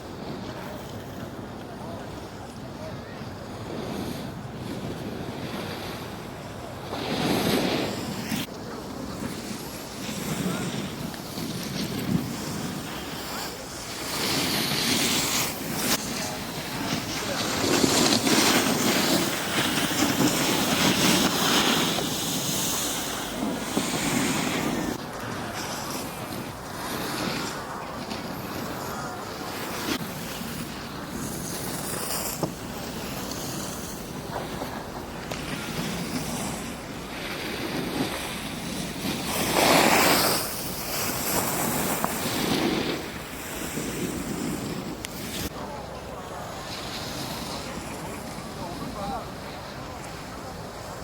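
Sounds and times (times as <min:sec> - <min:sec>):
skis scraping over packed snow: 0:00.0 - 0:51.0.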